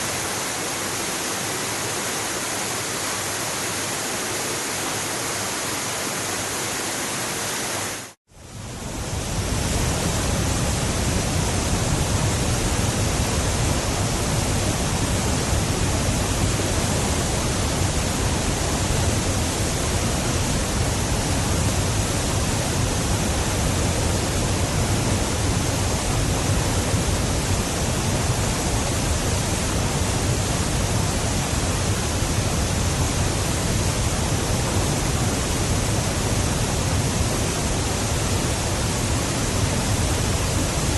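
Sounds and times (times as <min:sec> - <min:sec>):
waterfall rushing: 0:00.0 - 0:08.2, 0:09.0 - 0:40.9.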